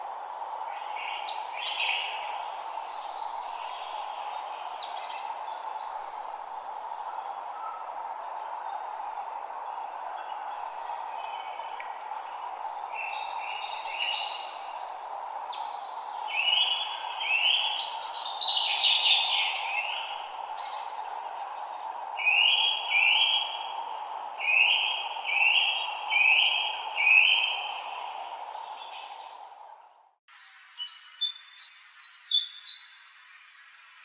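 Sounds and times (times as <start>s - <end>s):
steady background hiss: 0.0s - 30.0s
songbirds singing: 0.0s - 34.0s.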